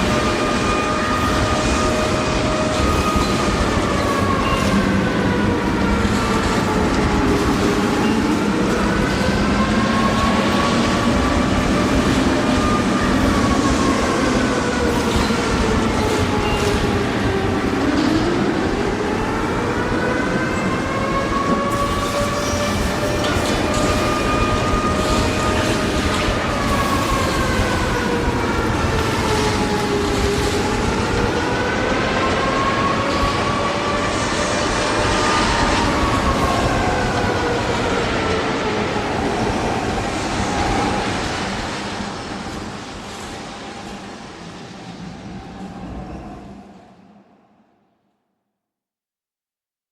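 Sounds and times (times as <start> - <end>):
warning siren wailing: 0.0 - 46.0
tornado wind roar: 0.0 - 47.5.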